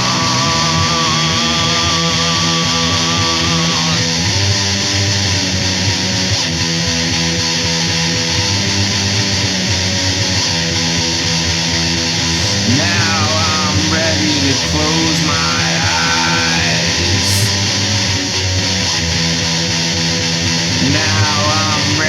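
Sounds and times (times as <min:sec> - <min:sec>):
bass guitar: 0:00.0 - 0:22.0
distorted electric guitar: 0:00.0 - 0:22.0.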